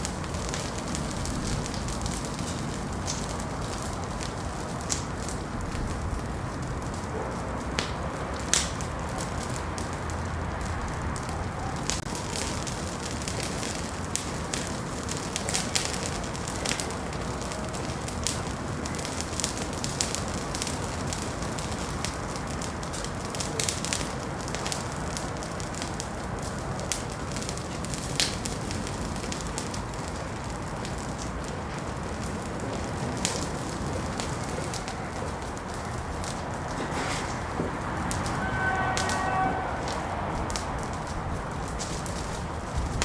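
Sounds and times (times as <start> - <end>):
fire crackling and popping: 0.0 - 43.0
low rush of flame: 0.0 - 43.0.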